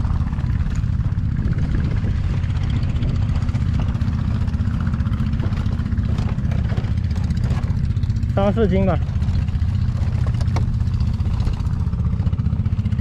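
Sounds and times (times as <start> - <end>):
motor rumbling with fast pulse: 0.0 - 13.0.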